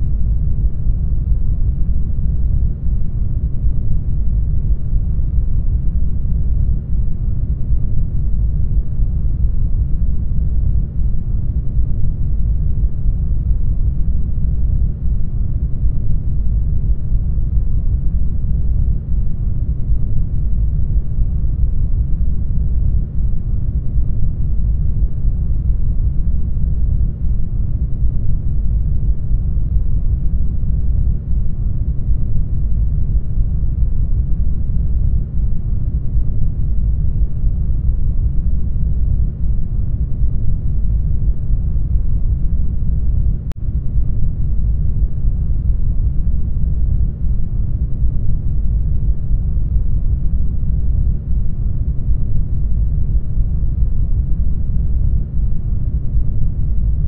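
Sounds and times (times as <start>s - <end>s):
deep muffled rumble: 0.0s - 57.0s.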